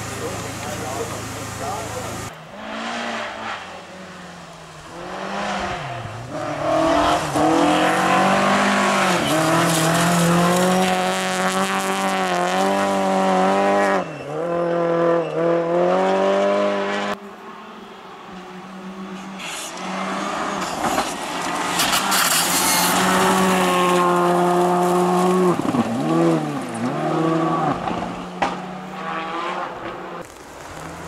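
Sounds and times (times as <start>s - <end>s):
rally car engine pulling hard: 0.0s - 17.2s, 19.1s - 31.0s.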